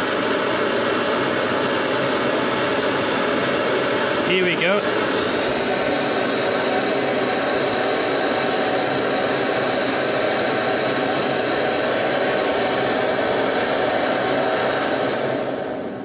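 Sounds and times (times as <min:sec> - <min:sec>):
gas blowtorch hissing: 0:00.0 - 0:16.0.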